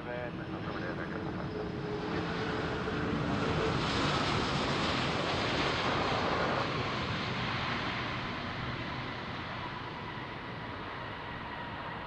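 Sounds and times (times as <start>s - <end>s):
jet airliner engines passing: 0.0s - 12.0s.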